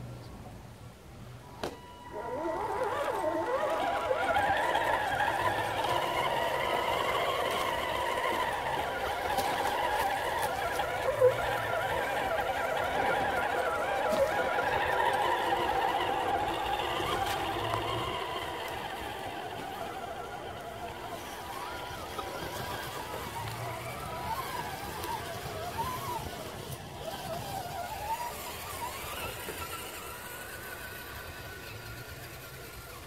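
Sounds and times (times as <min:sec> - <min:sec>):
toy truck electric motor whining: 0:01.6 - 0:33.0.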